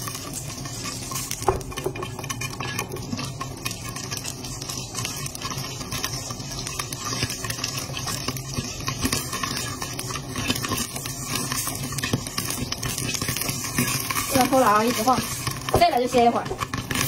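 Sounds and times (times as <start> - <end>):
kernels rattling against pan: 0.0 - 17.0
popcorn popping: 0.0 - 17.0.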